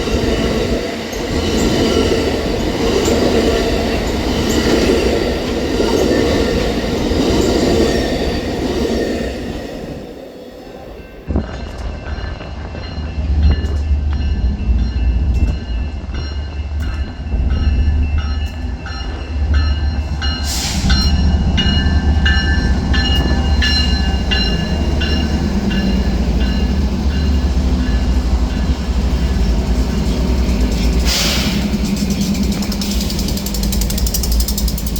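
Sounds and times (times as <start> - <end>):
train rumbling past: 0.0 - 34.9.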